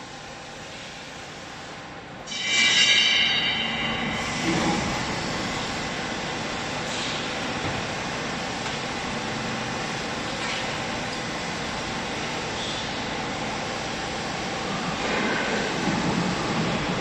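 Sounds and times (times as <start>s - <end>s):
baler motor and hydraulic pump: 0.1s - 17.0s.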